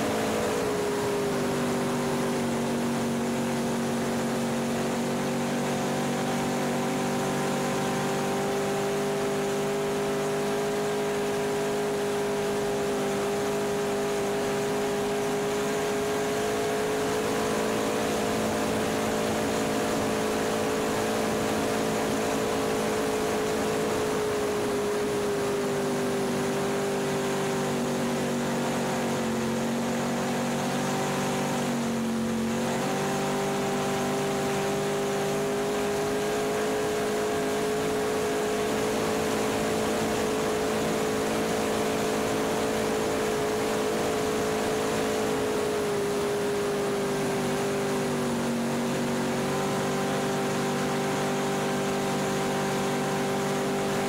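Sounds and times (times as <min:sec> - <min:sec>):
boat engine running at speed: 0:00.0 - 0:54.0
rush of wind and water: 0:00.0 - 0:54.0.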